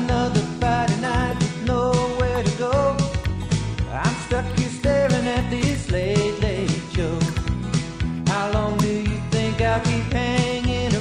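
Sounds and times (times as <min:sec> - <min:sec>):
instrumental country music: 0:00.0 - 0:11.0.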